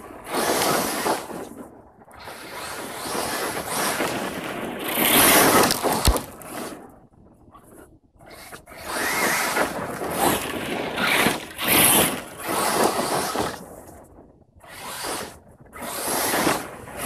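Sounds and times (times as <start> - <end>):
rc car tyres churning dirt: 0.0 - 14.0, 14.6 - 17.0.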